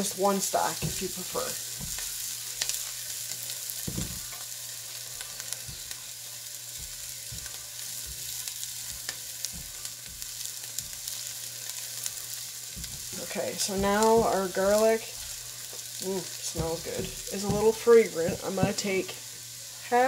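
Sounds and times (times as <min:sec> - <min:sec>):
vegetables sizzling in oil: 0:00.0 - 0:20.0
spatula scraping and tapping pan: 0:00.6 - 0:19.1.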